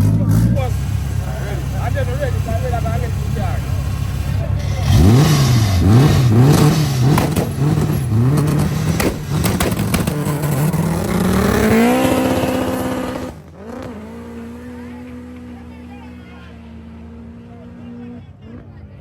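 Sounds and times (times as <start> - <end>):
sharp exhaust cracks: 0.0 - 15.5
car engine revving: 0.0 - 19.0.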